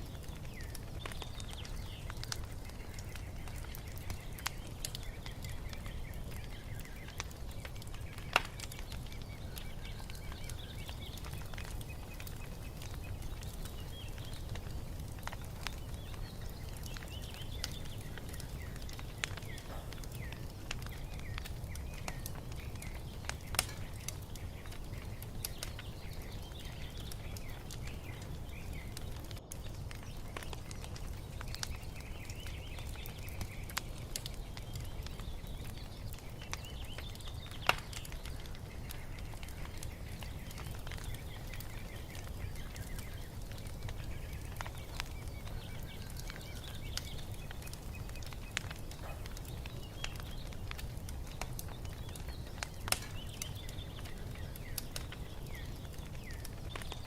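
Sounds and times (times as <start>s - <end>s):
birds chirping: 0.0s - 57.0s
wood fire crackling: 0.0s - 57.0s.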